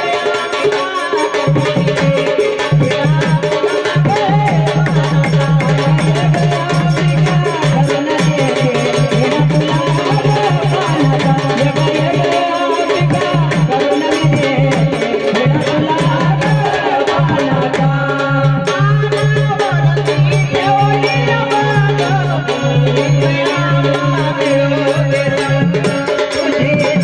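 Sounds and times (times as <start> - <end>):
drums beating: 0.0 - 27.0
harmonium melody: 0.0 - 27.0.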